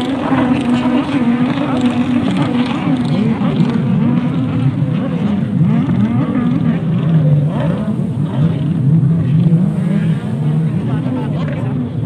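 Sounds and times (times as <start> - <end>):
jet ski engines racing: 0.0 - 12.0.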